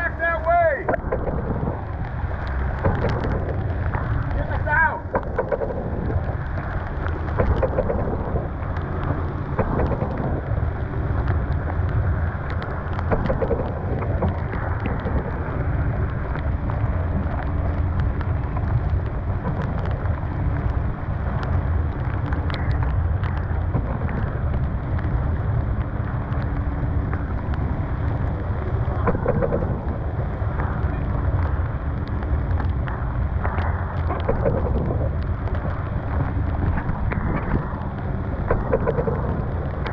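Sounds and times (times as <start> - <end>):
rain ticking on canvas: 0.0 - 39.9
wind buffeting microphone: 0.0 - 39.9.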